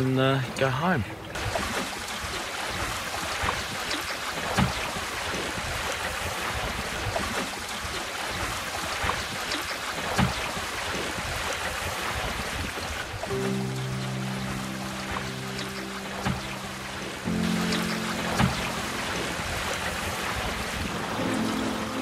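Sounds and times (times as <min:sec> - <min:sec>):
water lapping against a hull: 0:00.0 - 0:22.0.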